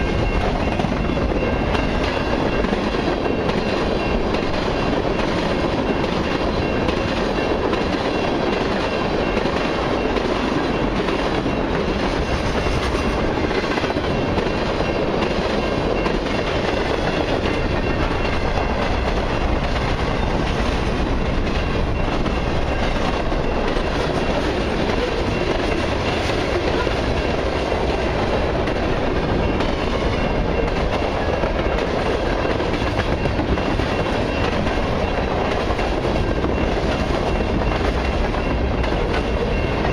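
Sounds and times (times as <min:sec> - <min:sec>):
freight train wheels rumbling on track: 0:00.0 - 0:39.9.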